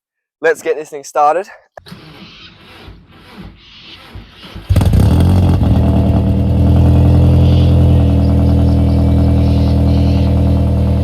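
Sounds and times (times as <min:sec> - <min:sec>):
car engine starting and idling: 0:01.8 - 0:11.0.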